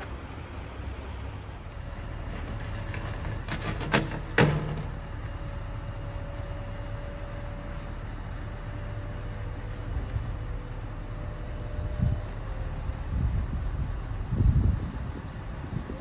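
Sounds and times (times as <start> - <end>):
diesel truck engine idling: 0.0 - 3.6, 4.2 - 16.0.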